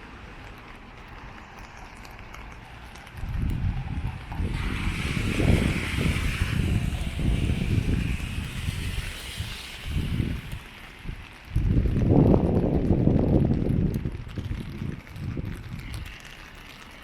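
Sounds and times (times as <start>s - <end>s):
tyres hissing on wet road: 0.0s - 12.2s, 15.4s - 17.0s
wind buffeting microphone: 1.1s - 17.0s.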